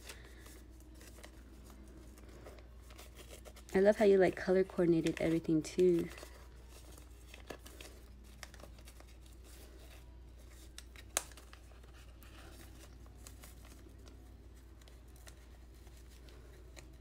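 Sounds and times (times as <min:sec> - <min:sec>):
paper packet crinkling: 0:00.0 - 0:17.0.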